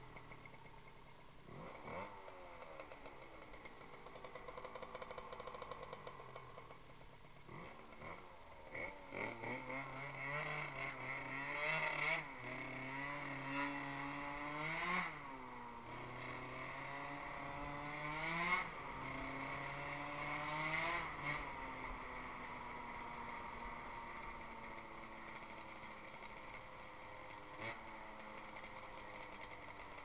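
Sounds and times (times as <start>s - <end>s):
scooter engine revving: 1.5s - 30.0s.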